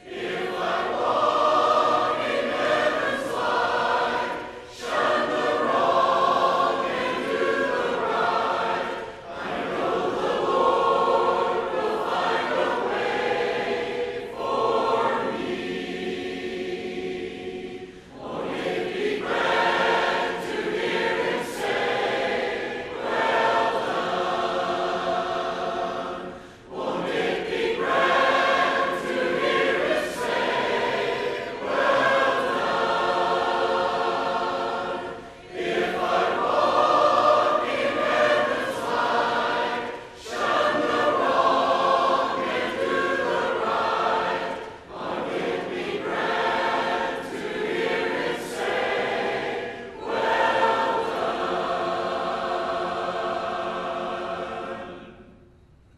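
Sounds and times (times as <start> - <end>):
choir singing a hymn: 0.0 - 55.9.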